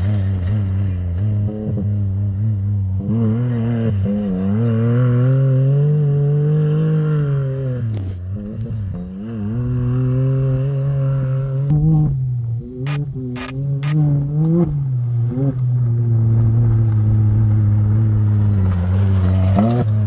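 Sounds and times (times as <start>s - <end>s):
engine running hard: 0.0s - 20.0s.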